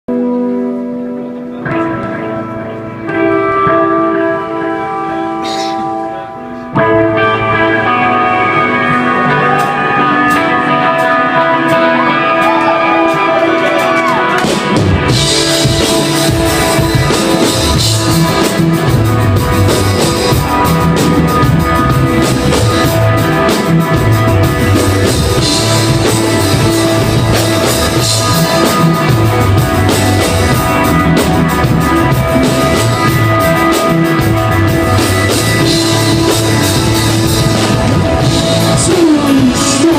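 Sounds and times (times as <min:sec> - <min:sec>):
drums: 0:00.1 - 0:39.9
electric guitar: 0:00.1 - 0:39.9
rock band playing live: 0:00.1 - 0:39.9.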